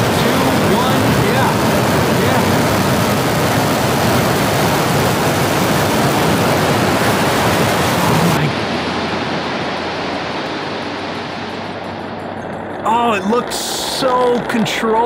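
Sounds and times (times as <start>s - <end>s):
low rumble: 0.0s - 15.0s
rocket engine roaring: 0.0s - 15.0s.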